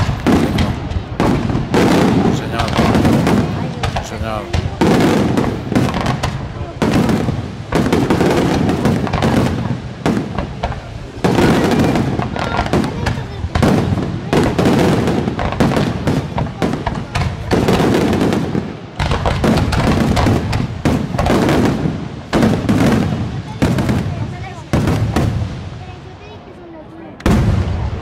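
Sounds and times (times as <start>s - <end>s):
fireworks bursting and crackling: 0.0s - 28.0s.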